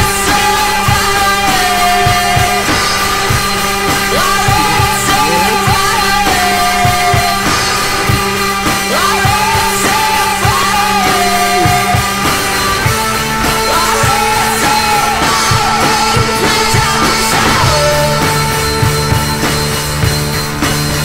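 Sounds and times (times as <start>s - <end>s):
rock song with singing: 0.0s - 21.0s.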